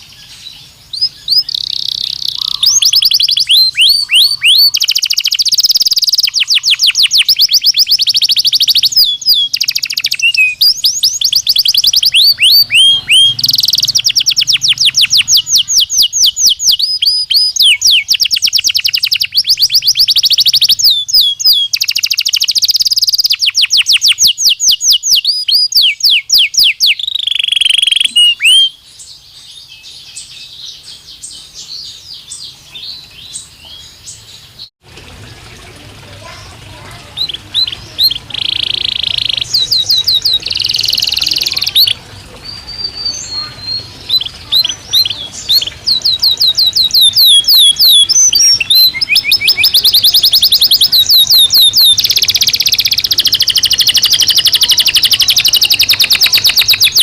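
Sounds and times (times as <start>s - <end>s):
canary singing trills: 0.0s - 34.7s, 36.2s - 57.0s.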